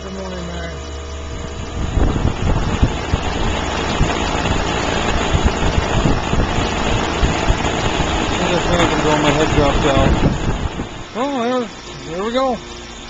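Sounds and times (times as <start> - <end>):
air conditioning unit humming: 0.0 - 13.0
wind buffeting microphone: 0.8 - 12.4
rush of air: 1.2 - 11.8.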